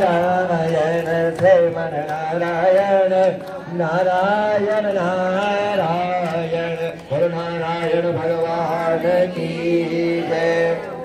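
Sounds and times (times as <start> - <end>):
devotional chanting: 0.0 - 11.0.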